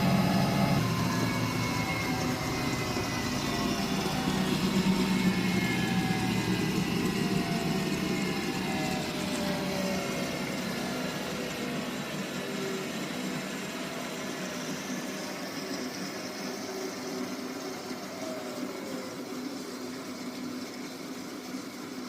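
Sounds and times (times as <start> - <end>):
washing machine spinning down: 0.0 - 22.0.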